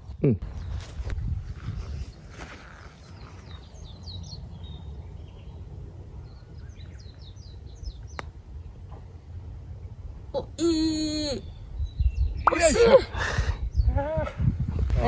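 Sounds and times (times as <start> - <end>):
small birds chirping: 0.2 - 9.1, 11.1 - 15.0.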